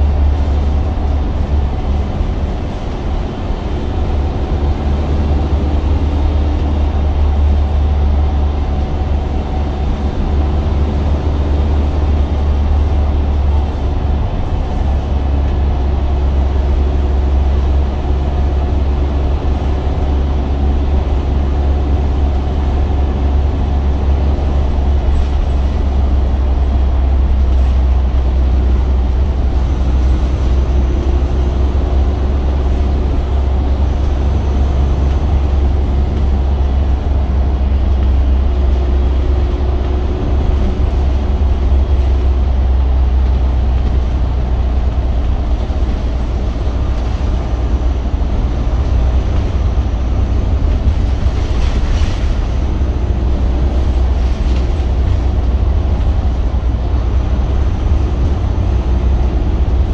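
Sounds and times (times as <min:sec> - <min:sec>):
diesel bus engine drone: 0:00.0 - 0:59.9
road and body noise: 0:00.0 - 0:59.9.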